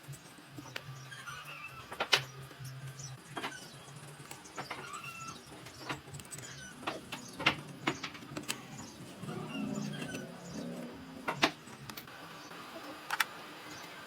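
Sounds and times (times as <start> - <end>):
birds chirping: 0.6 - 13.0.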